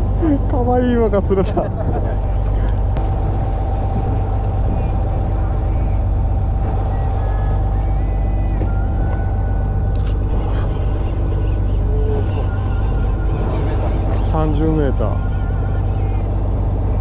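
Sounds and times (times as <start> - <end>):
boat machinery droning: 0.0 - 17.0.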